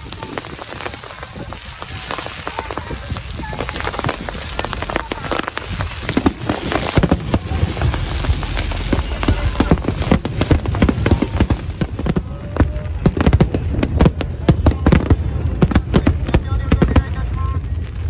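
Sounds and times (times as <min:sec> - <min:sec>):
deep fireworks booms: 0:00.0 - 0:18.0
fireworks bangs and pops: 0:00.0 - 0:18.0.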